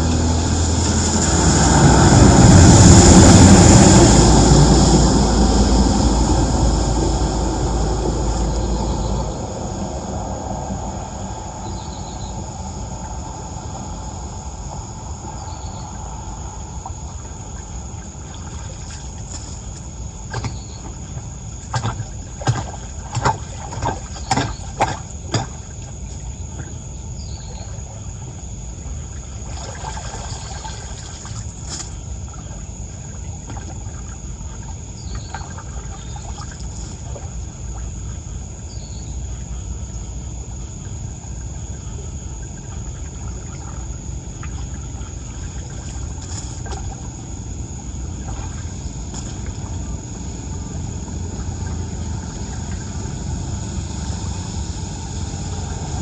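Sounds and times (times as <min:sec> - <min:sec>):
floodwater rushing into storm drain: 0:00.0 - 0:38.6, 0:40.4 - 0:56.0
insects chirping: 0:00.0 - 0:56.0.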